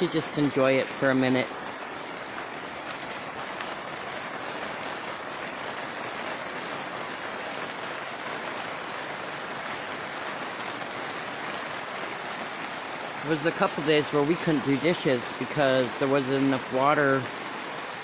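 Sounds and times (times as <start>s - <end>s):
heavy rain falling: 0.0s - 18.0s
raindrop hits: 0.0s - 18.0s.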